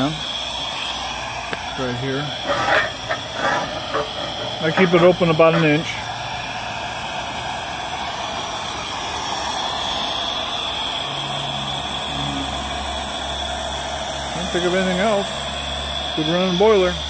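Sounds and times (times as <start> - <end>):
steam hissing from boiler: 0.0 - 17.0.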